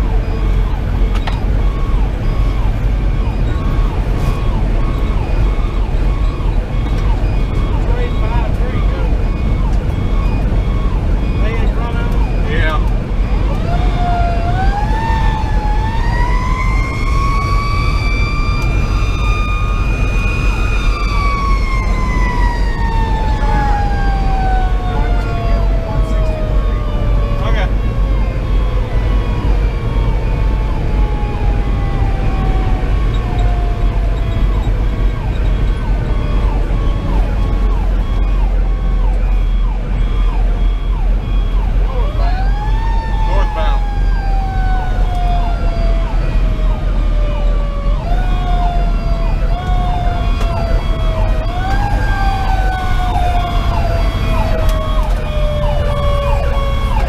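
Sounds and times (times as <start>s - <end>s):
diesel truck engine rumble: 0.0s - 57.0s
fire engine siren wailing: 0.0s - 57.0s
road noise: 0.0s - 57.0s.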